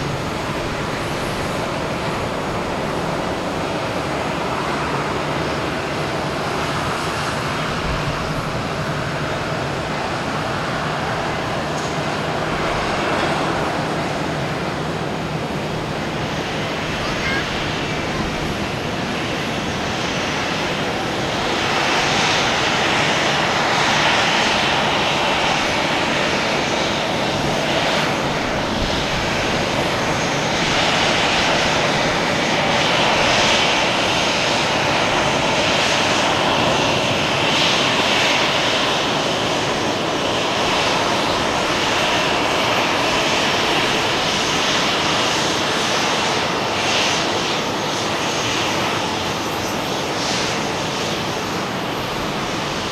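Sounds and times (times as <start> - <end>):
jet airliner engines rushing: 0.0 - 52.9.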